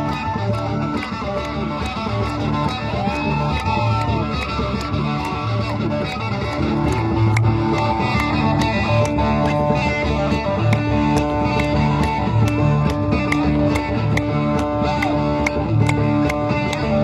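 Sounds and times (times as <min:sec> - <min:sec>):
gliding lead guitar line: 0:00.0 - 0:17.0
live band with electric guitars: 0:00.0 - 0:17.0
repeating bass line: 0:00.0 - 0:17.0.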